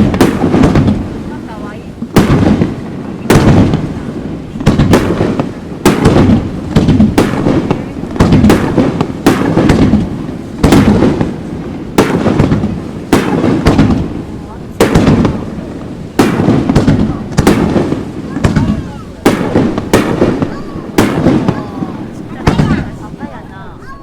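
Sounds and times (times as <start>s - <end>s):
fireworks bursting: 0.0s - 24.0s
rumbling echo: 0.0s - 24.0s.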